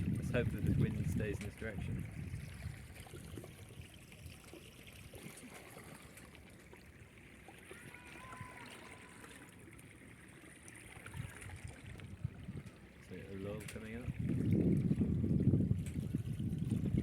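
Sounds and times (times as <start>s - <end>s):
water lapping against hull: 0.0s - 17.0s.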